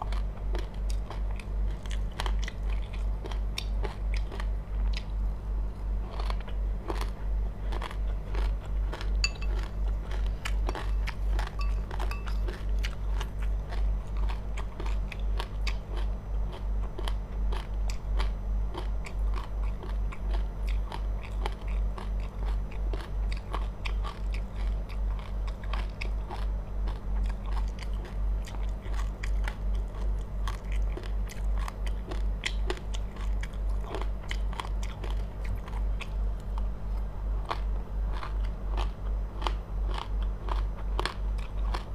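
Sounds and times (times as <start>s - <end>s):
chewing crunchy seeds: 0.0s - 41.9s
constant low hum: 0.0s - 41.9s.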